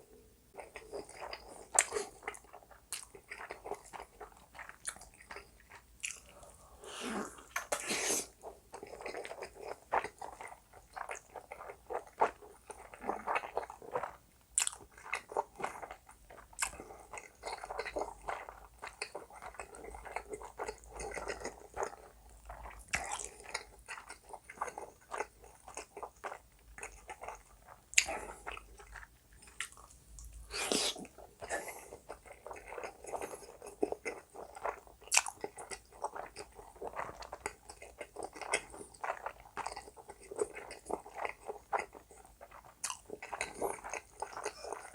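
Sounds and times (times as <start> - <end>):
close chewing and biting: 0.6 - 6.6, 7.4 - 44.9.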